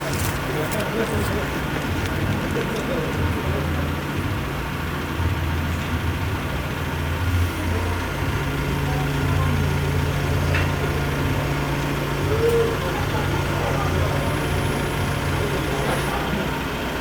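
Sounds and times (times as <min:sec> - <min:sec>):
crane engine idling: 0:00.0 - 0:17.0.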